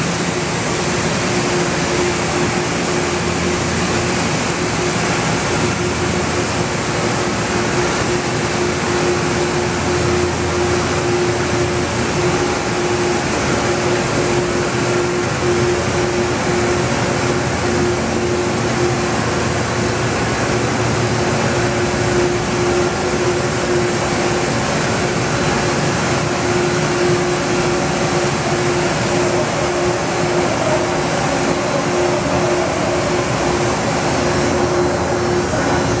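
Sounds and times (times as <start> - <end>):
constant hum: 0.0 - 36.0
printing machinery drone: 0.0 - 36.0.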